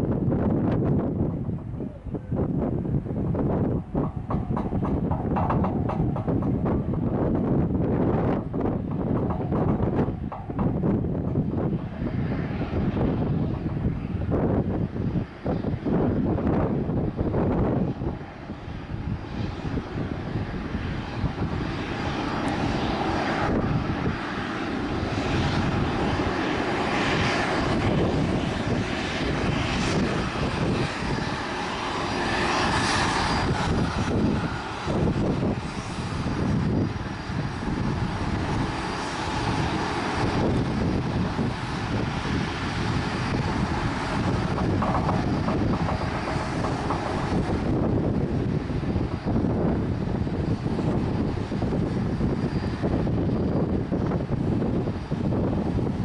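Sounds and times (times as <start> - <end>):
jet engines running: 0.0 - 56.0
wind buffeting microphone: 0.0 - 56.0.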